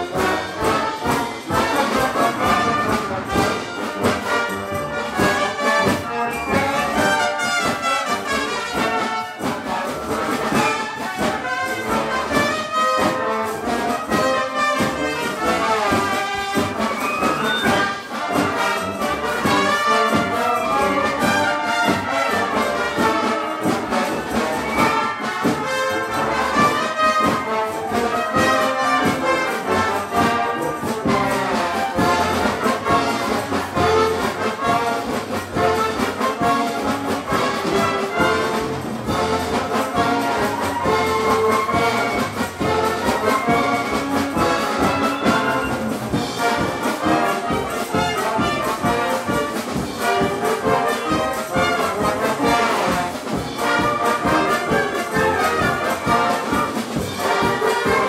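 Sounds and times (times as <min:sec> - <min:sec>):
trumpets and trombones: 0:00.0 - 0:58.0
wind band playing: 0:00.0 - 0:58.0.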